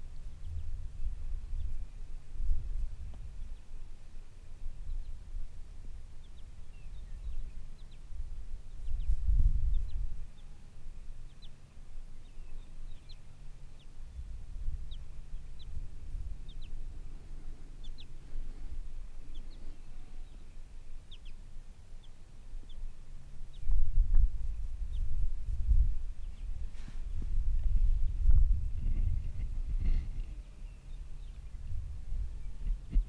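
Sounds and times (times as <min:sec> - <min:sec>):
wind rumbling on microphone: 0:00.0 - 0:21.4, 0:22.5 - 0:33.0.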